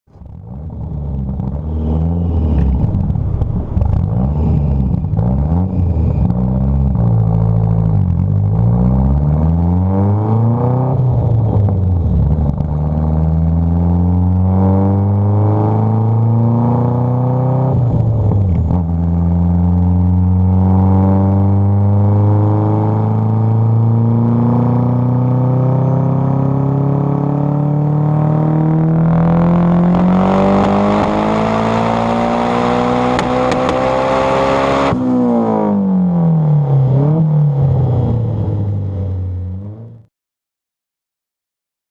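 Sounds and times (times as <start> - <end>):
car engine revving: 0.1 - 40.1.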